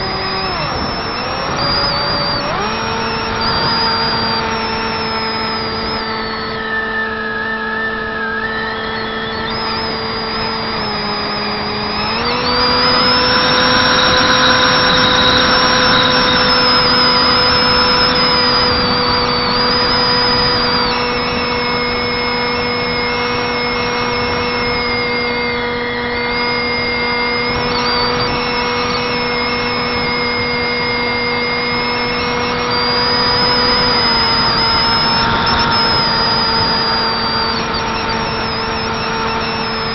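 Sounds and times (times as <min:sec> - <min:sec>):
electric motor and propeller hum: 0:00.0 - 0:39.9
high wavering whine: 0:00.0 - 0:39.9.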